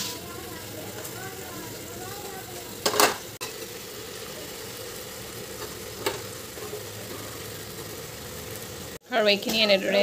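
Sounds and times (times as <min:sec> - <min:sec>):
greens sizzling in hot oil: 0:00.0 - 0:10.0.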